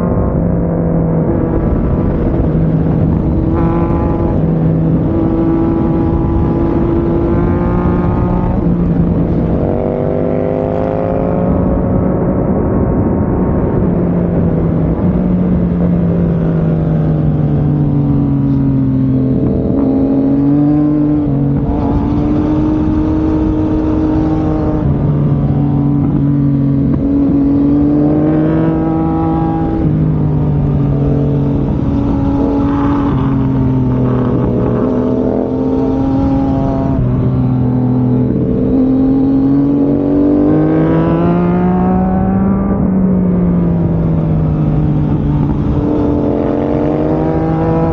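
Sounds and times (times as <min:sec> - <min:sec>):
motorcycle engine revving: 0:00.0 - 0:47.9
wind rush: 0:00.0 - 0:47.9.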